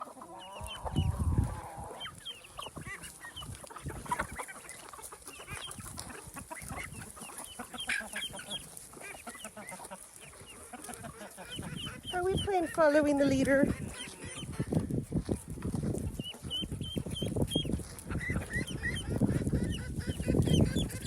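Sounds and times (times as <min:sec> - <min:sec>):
chickens clucking and calling: 0:00.0 - 0:21.0.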